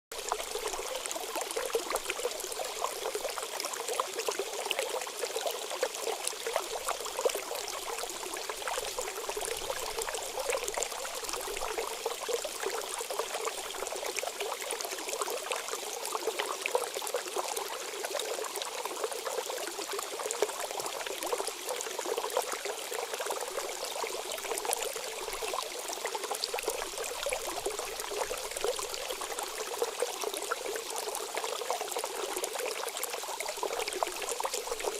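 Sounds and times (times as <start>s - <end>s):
water pouring and trickling: 0.1s - 34.9s.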